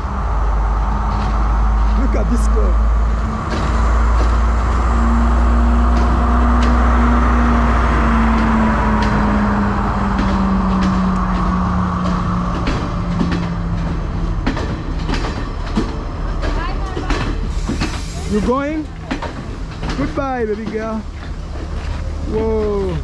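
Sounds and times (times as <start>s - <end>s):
diesel train engine drone: 0.0s - 23.0s
train wheels clicking over rail joints: 0.0s - 23.0s.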